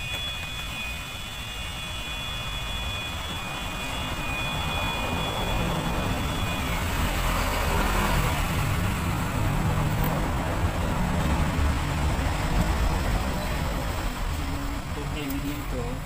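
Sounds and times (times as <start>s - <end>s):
engine-like rumble: 0.0s - 16.0s.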